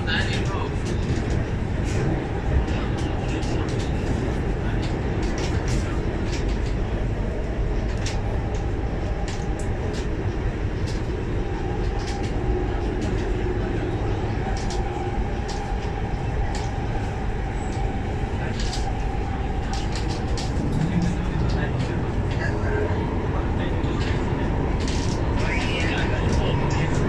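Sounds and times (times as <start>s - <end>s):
faint train whine: 0.0s - 27.0s
train running rumble: 0.0s - 27.0s.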